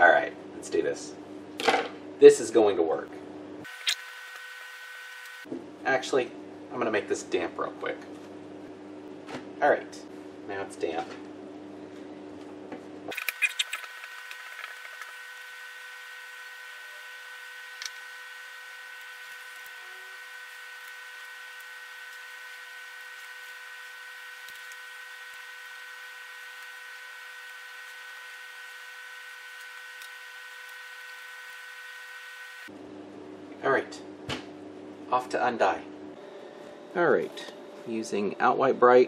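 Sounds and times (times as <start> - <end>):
faint high hum tones: 0.0 - 39.0.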